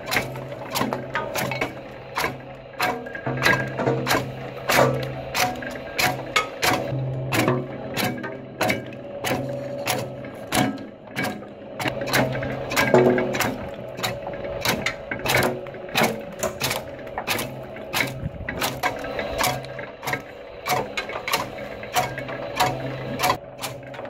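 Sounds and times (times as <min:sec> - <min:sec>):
wood chipper humming: 0:00.0 - 0:24.0.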